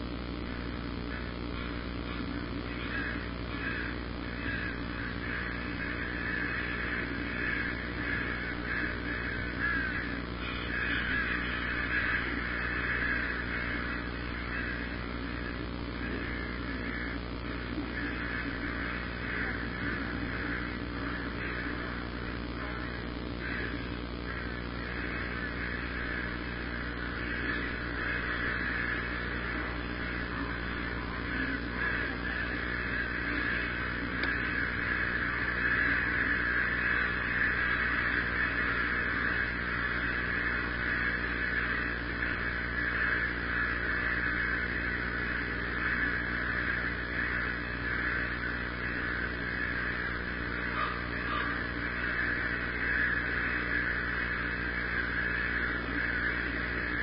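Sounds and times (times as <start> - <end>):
steady low hum: 0.0 - 57.0
many birds calling: 1.0 - 57.0.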